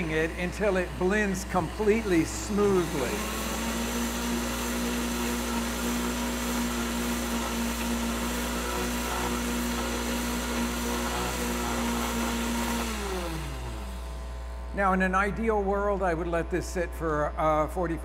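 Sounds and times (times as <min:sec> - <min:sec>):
blender motor running: 0:00.0 - 0:14.7.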